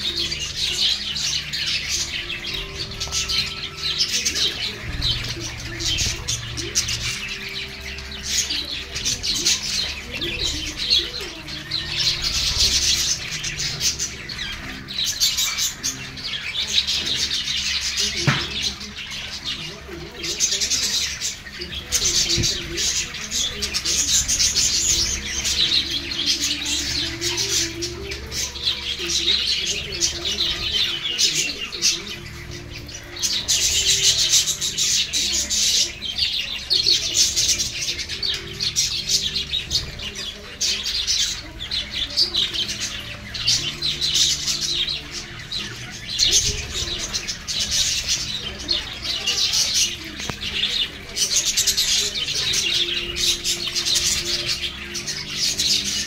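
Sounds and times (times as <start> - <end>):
budgerigars chattering and warbling: 0.0 - 56.0.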